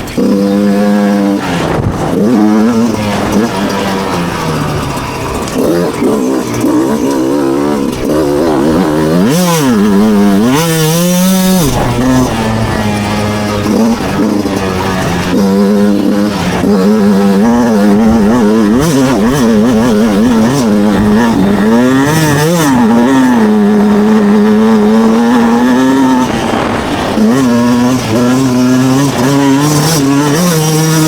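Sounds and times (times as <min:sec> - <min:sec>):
two-stroke motorbike engine revving: 0:00.0 - 0:31.0.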